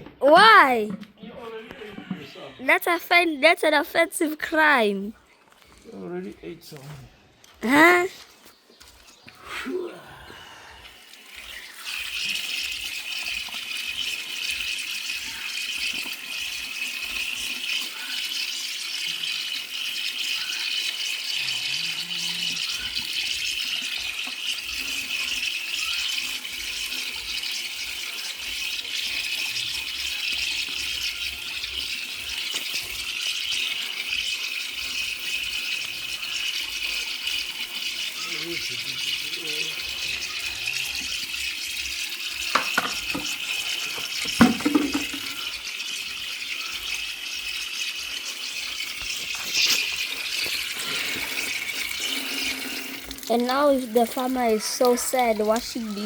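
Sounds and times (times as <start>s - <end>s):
water running: 9.4s - 56.0s.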